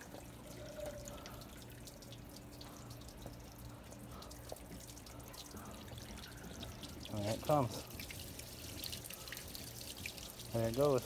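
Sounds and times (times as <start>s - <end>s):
water dripping and trickling: 0.0s - 11.0s.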